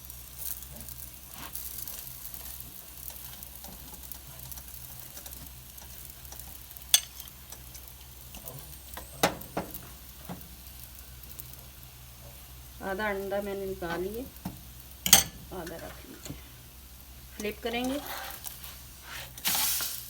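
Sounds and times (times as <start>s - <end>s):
egg sizzling on hot pan: 0.0s - 20.0s.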